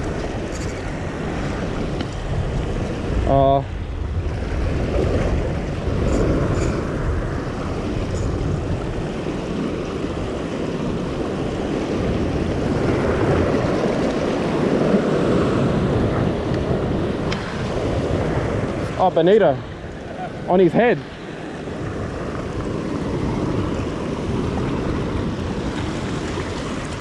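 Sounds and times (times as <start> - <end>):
wind buffeting microphone: 0.0 - 27.0
sea swell washing against rock: 4.0 - 27.0.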